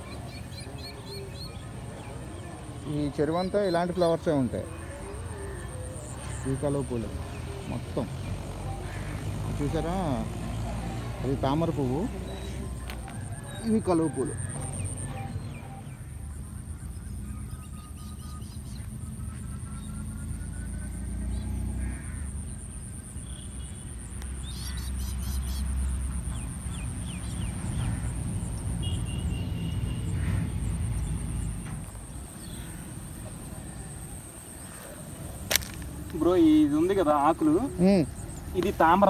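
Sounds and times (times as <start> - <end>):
bird calls: 0.0 - 39.0.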